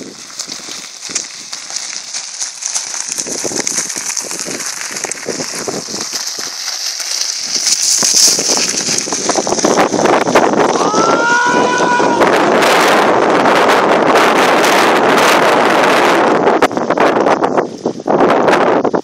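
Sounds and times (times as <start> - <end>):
bike tyres crunching on gravel: 0.0 - 19.0
wind buffeting microphone: 0.0 - 19.0.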